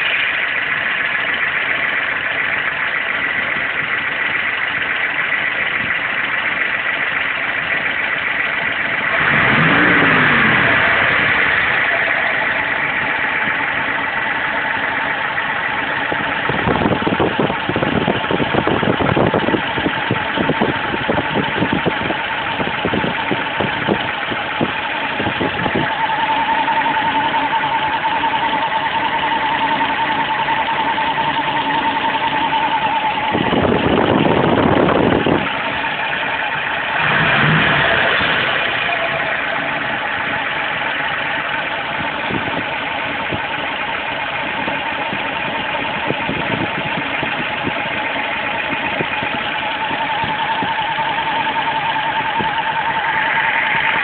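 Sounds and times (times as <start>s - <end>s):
car engine running: 0.0s - 54.0s
rapid ticking from belt drive: 0.0s - 54.0s
high whine from belt drive: 2.6s - 54.0s.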